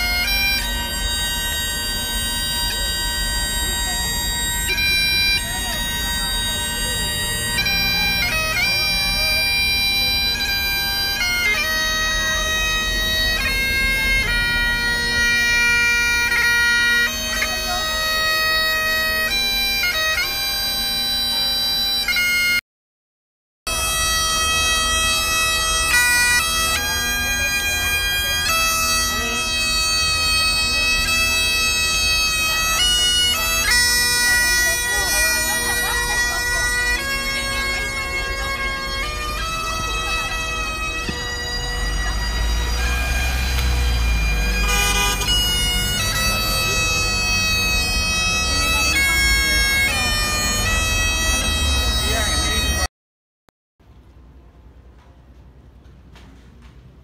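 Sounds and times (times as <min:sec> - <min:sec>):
bagpipes playing a tune: 0:00.0 - 0:22.6, 0:23.7 - 0:52.9.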